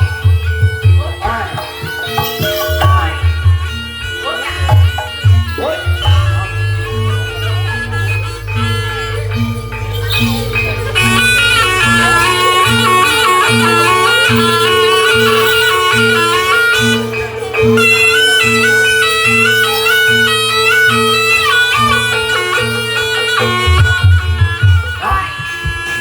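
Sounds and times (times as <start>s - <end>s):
reedy wind instrument melody: 0.0s - 26.0s.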